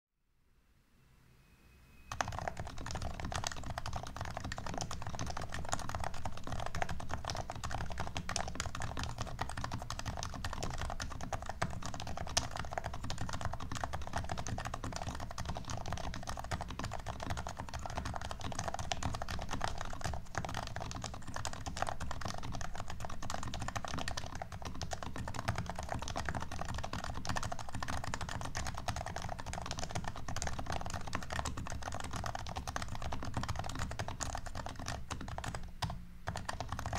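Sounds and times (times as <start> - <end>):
keyboard typing: 2.1 - 36.9.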